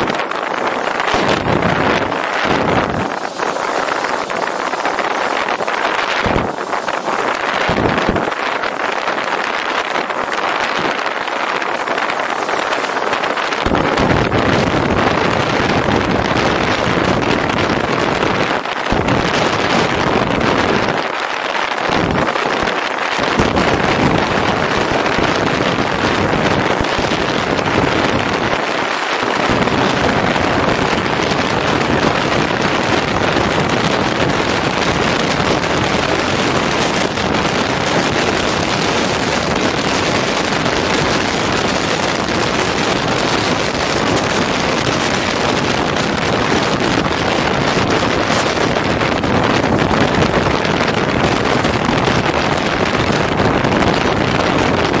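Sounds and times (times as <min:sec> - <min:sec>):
wind roaring over microphone: 0:00.0 - 0:55.0.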